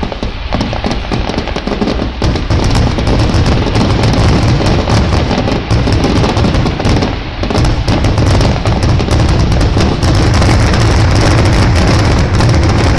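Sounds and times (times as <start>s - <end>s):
deep rumble: 0.0s - 12.9s
fireworks bangs and crackles: 0.0s - 12.9s.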